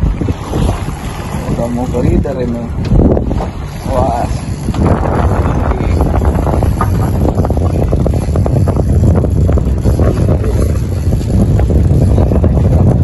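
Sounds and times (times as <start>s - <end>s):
boat engine rumble: 0.0s - 13.0s
wind buffeting microphone: 0.0s - 13.0s.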